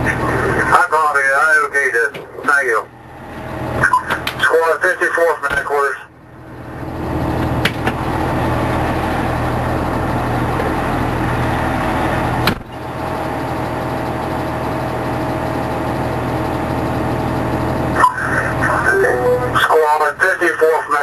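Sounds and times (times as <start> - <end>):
fire engine engine humming: 0.0 - 21.0.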